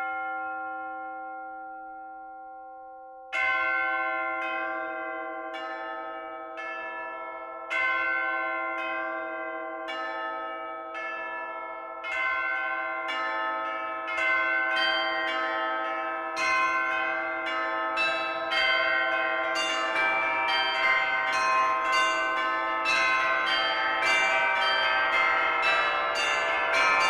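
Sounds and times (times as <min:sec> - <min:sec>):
church bell ringing: 0:00.0 - 0:02.4, 0:03.3 - 0:27.0.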